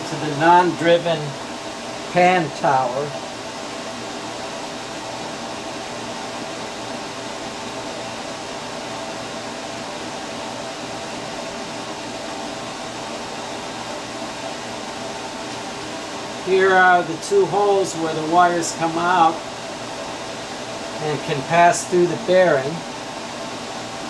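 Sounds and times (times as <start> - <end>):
faint hum: 0.0 - 24.0
fan whirring: 0.0 - 24.0.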